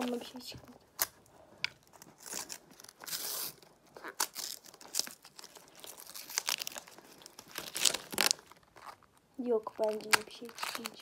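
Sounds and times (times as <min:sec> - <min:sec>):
plastic wrapper crinkling: 0:00.0 - 0:11.0
plastic packet ripping: 0:01.0 - 0:11.0.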